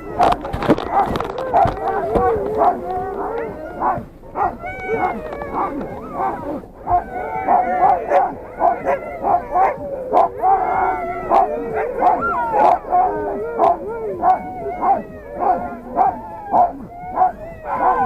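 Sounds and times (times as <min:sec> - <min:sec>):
dogs barking and yelping: 0:00.0 - 0:18.0
dogs howling: 0:00.0 - 0:18.0.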